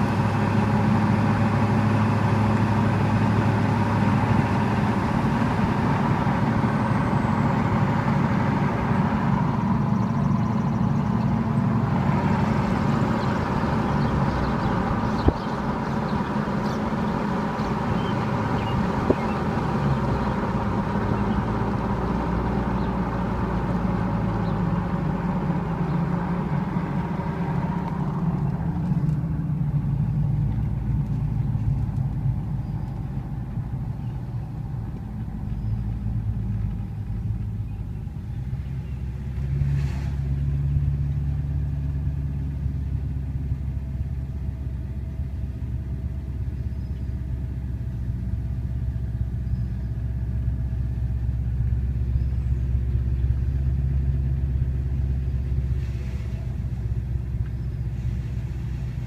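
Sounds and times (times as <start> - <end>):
car engine humming: 0.0 - 59.0.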